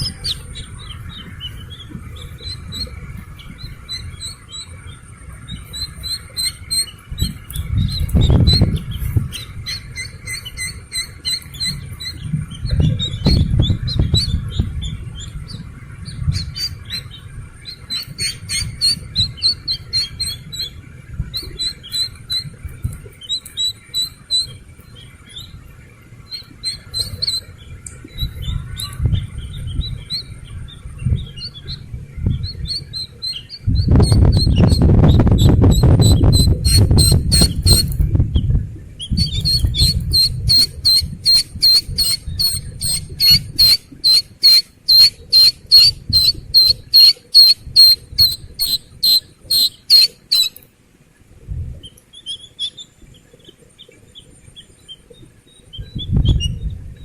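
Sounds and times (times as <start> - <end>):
chicks peeping: 0.0 - 50.7, 51.8 - 56.8
low rumbling noise: 0.0 - 57.0.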